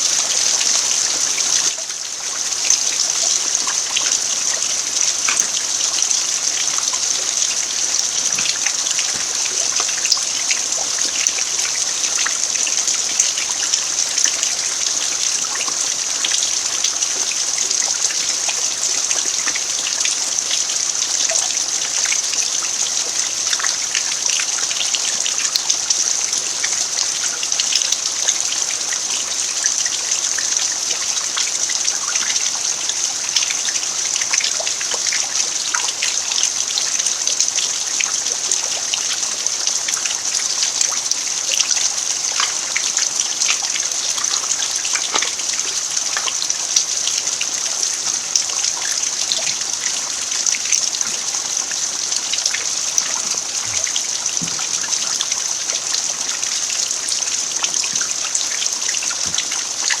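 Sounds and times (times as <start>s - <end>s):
rain on packed earth: 0.0s - 60.0s.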